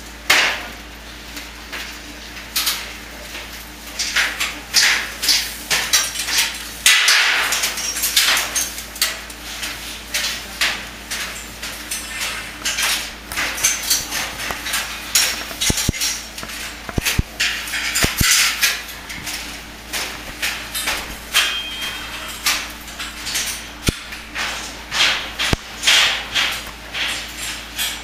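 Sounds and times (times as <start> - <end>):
metallic clanks: 4.8 - 28.0.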